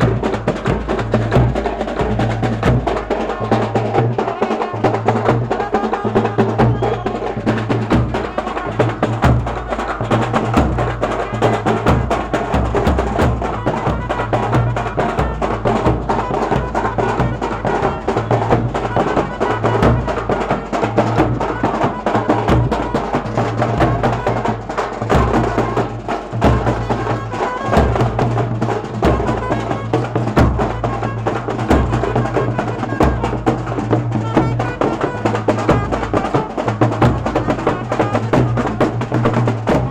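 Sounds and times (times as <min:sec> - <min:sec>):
fast busy percussion: 0:00.0 - 0:39.9.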